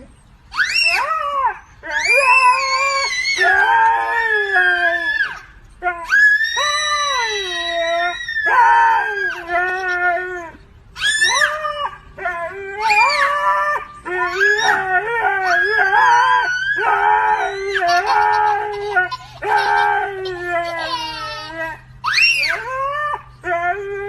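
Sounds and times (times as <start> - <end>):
dog howling: 0.5 - 24.0.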